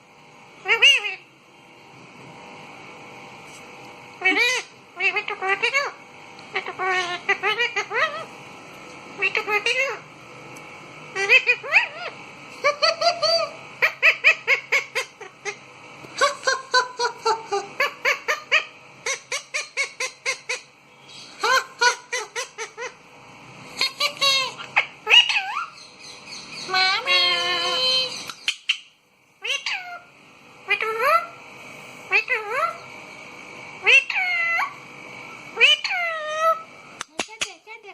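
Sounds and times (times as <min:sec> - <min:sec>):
parrot calling and chattering: 0:00.6 - 0:01.3, 0:04.2 - 0:08.4, 0:09.2 - 0:10.1, 0:11.1 - 0:31.4, 0:32.1 - 0:33.0, 0:33.7 - 0:37.9.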